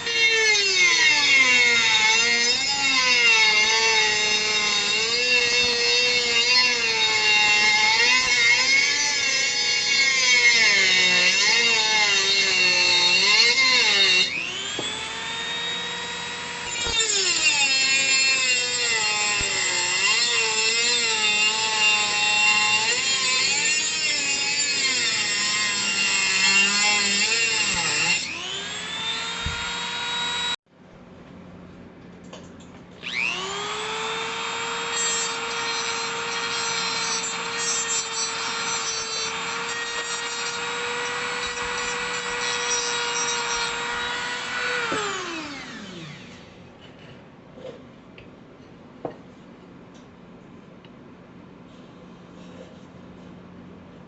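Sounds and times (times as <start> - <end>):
drill press motor whine: 0.0 - 30.6, 33.0 - 46.7.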